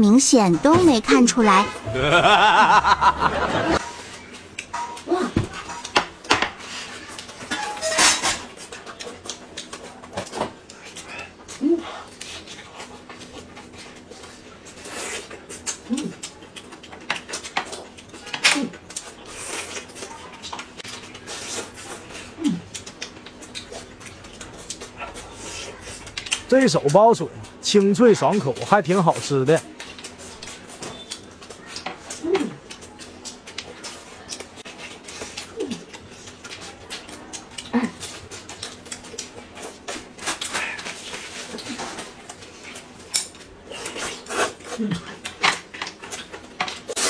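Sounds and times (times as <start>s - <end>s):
chewing and crunching: 6.6s - 47.0s.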